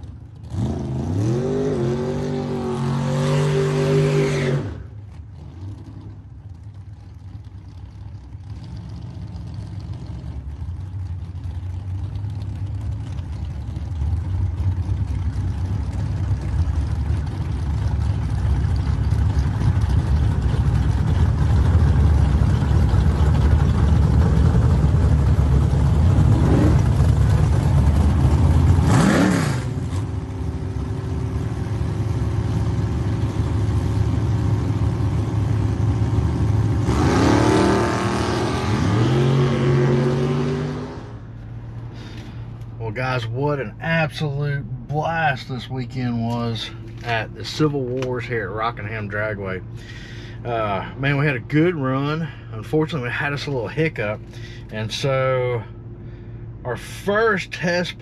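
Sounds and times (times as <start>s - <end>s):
car engine revving: 0.0s - 6.5s, 8.2s - 56.2s
low engine rumble: 0.0s - 58.0s.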